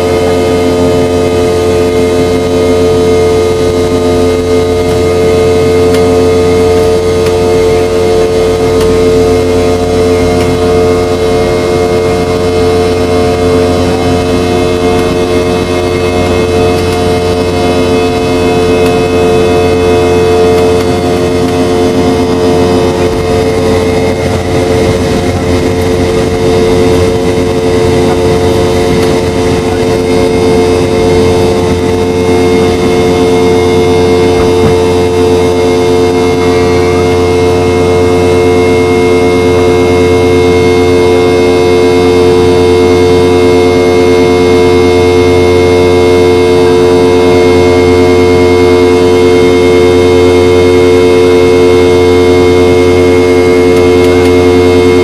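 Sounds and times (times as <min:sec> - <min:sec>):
jet engines in aircraft cabin: 0:00.0 - 0:55.0.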